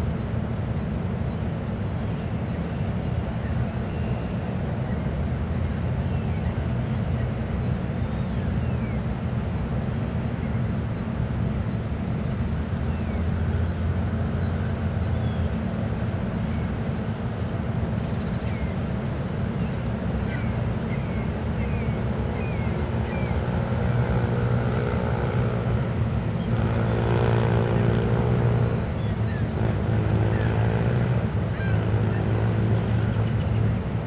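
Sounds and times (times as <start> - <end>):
ship engines droning: 0.0 - 34.0.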